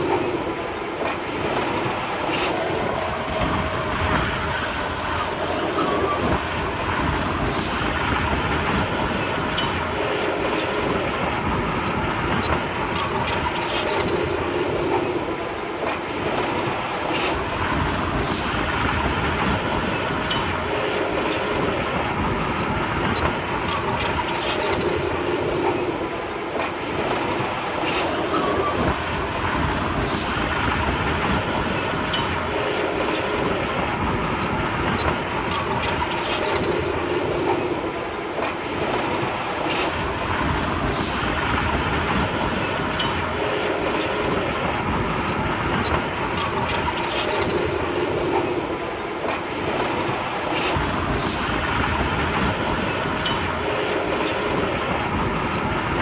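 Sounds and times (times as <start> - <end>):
steel tracks clanking and squeaking: 0.0 - 56.0.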